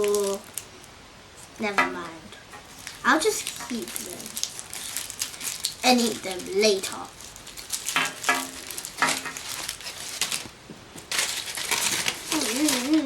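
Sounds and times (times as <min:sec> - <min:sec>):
wrappers crinkling: 0:00.0 - 0:00.7, 0:02.5 - 0:13.0.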